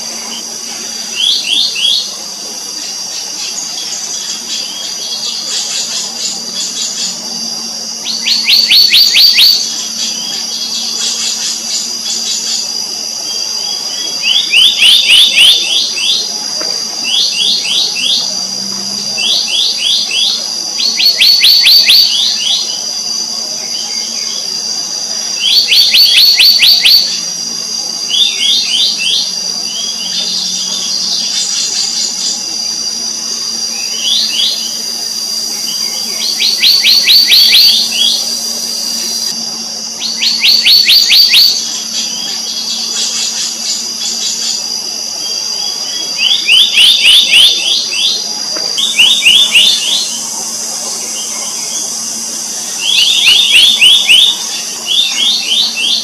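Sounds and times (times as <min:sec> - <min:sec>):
high insect whine: 0:00.0 - 0:56.0.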